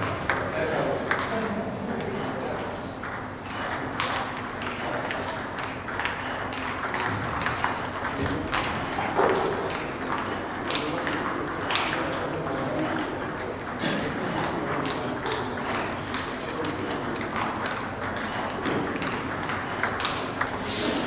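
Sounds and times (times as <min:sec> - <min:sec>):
table tennis ball clicking: 0:00.0 - 0:02.1, 0:03.0 - 0:13.8, 0:14.6 - 0:20.6
steady background hum: 0:00.0 - 0:21.0.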